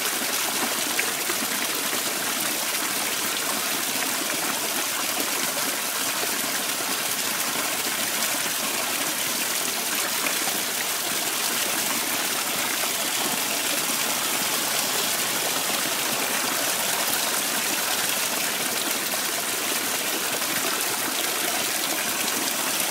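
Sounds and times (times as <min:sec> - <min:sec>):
waterfall splashing into rock pool: 0:00.0 - 0:22.9.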